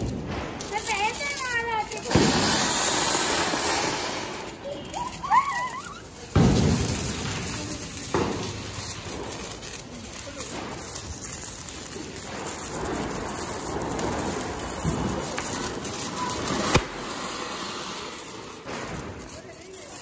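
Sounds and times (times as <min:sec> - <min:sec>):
firecracker bang: 0:00.0 - 0:20.0
firecracker crack: 0:00.0 - 0:20.0
fountain fireworks crackling hiss: 0:00.0 - 0:20.0.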